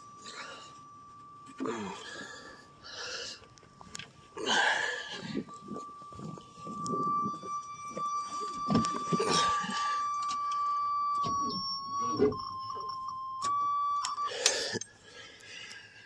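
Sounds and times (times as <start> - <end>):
high warning buzzer tone: 0.0 - 15.2.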